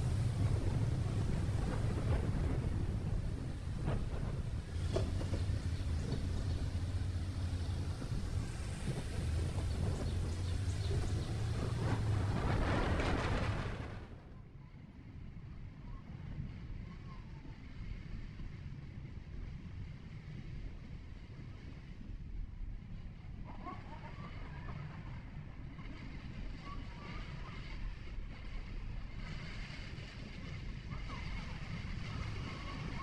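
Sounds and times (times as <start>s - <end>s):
vehicle road noise: 0.0s - 15.0s, 17.6s - 33.0s.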